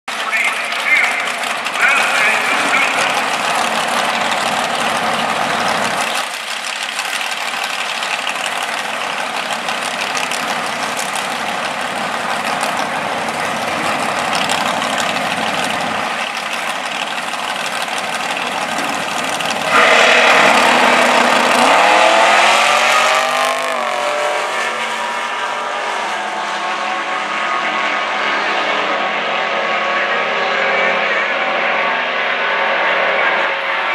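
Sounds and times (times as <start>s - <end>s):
drag car engines accelerating: 0.1s - 33.9s.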